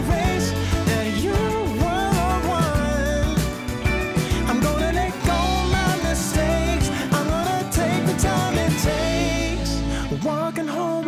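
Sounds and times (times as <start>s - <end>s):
deep bass: 0.0s - 10.4s.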